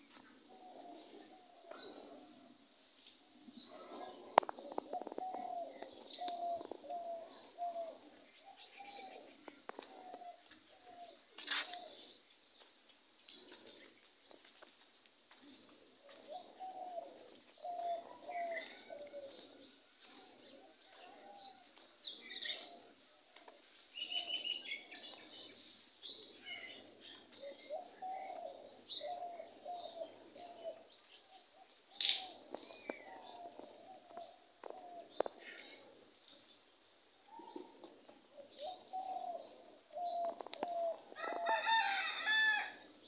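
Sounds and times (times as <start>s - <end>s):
small birds chirping: 0.0s - 41.9s
doves cooing: 0.0s - 43.0s.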